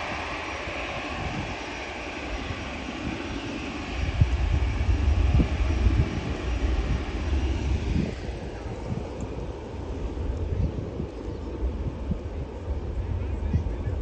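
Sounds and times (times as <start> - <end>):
jet airliner roar overhead: 0.0 - 14.0.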